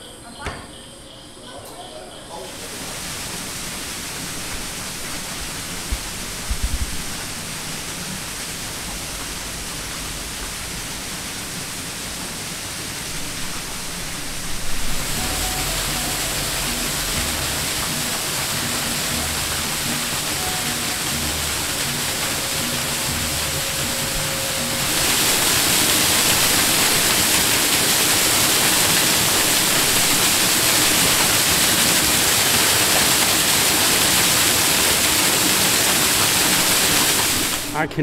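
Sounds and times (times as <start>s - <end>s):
falling water rushing: 2.5s - 38.0s.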